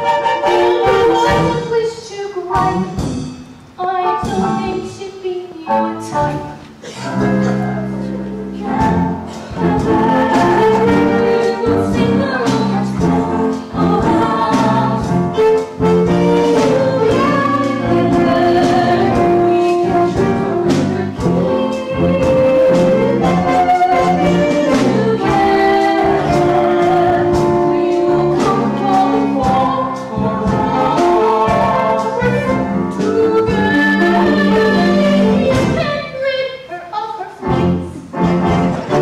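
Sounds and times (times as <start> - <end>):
orchestra playing held chords: 0.0 - 1.8, 5.7 - 36.2, 37.4 - 39.0
voices singing: 3.8 - 37.8.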